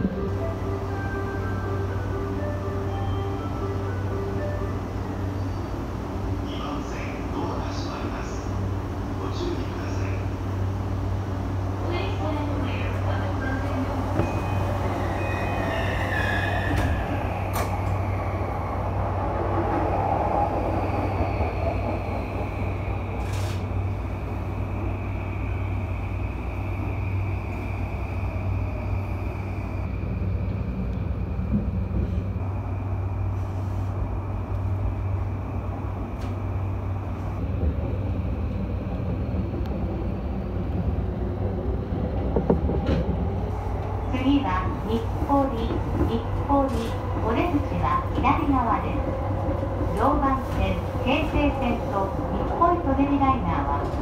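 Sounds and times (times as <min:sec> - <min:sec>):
electric train passing: 0:00.0 - 0:54.0.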